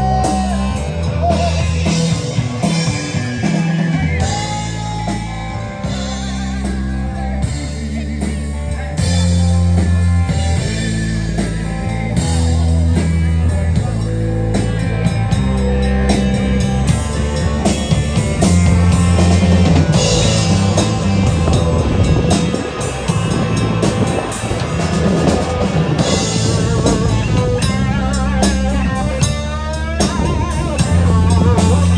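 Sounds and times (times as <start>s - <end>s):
bass line: 0.0s - 31.9s
drum kit with cymbals: 0.0s - 31.9s
electric guitars: 0.0s - 31.9s.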